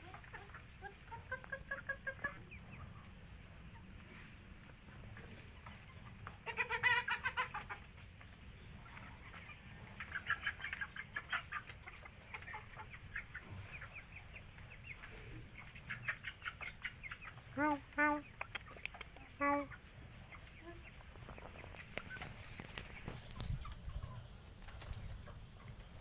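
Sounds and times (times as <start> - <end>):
chicken clucking: 0.0 - 26.0.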